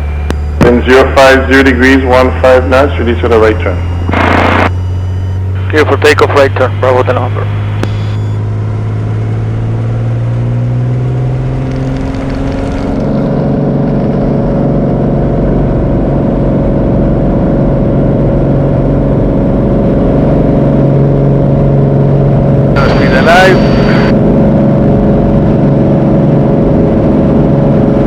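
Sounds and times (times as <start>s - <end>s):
propeller plane engine: 0.0s - 28.0s.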